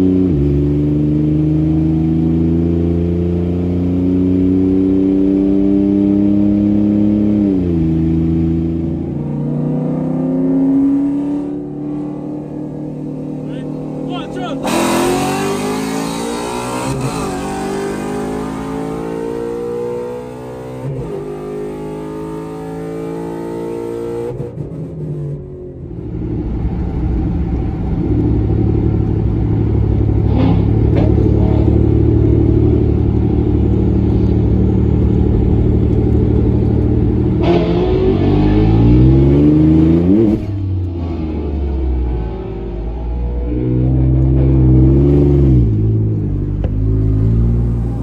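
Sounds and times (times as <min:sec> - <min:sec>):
race cars accelerating: 0:00.0 - 0:48.0.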